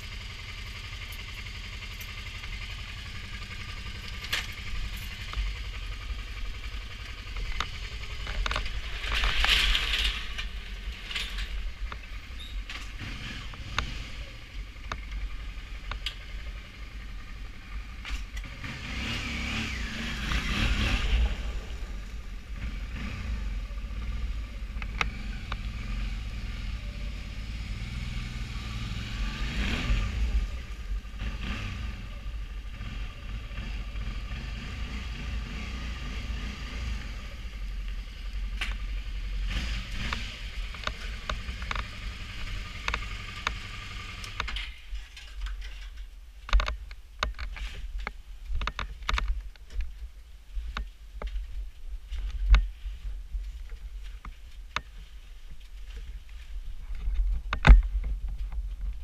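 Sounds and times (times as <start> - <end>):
motorcycle engine: 0.0 - 47.8
road noise: 0.0 - 59.0.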